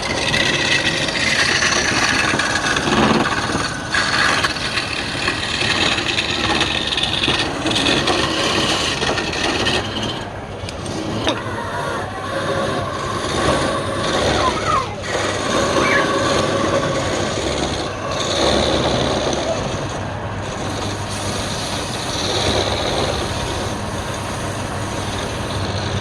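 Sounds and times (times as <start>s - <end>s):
turning tool rasping wood: 0.0s - 26.0s
wood lathe running: 0.0s - 26.0s.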